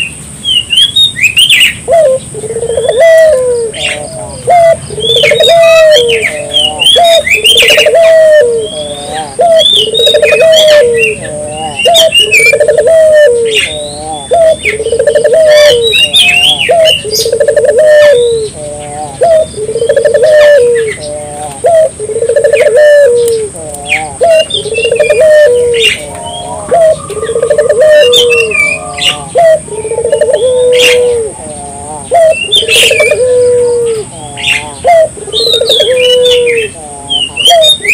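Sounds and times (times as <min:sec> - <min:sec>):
small birds chirping: 0:00.0 - 0:37.9
dove cooing: 0:01.4 - 0:37.9.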